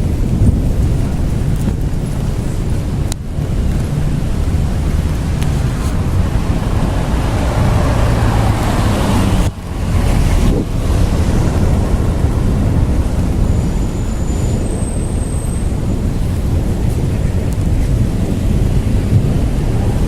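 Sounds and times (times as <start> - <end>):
low thunder rumble: 0.0 - 20.0
wind: 0.0 - 20.0.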